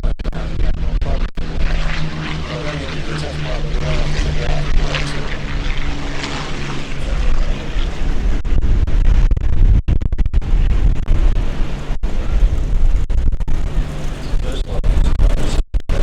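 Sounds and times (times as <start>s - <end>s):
propeller aircraft engines rumbling: 0.0s - 16.0s.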